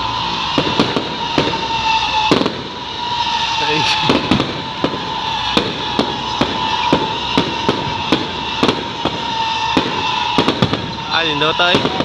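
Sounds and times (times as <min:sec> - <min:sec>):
steady high whine: 0:00.0 - 0:11.2
firecrackers banging: 0:00.0 - 0:12.0.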